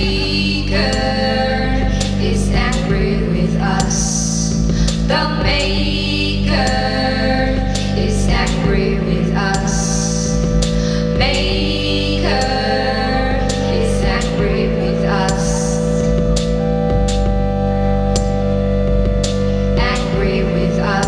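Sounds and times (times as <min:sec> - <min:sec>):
low bass: 0:00.0 - 0:21.0
synthesizer chords: 0:00.0 - 0:21.0.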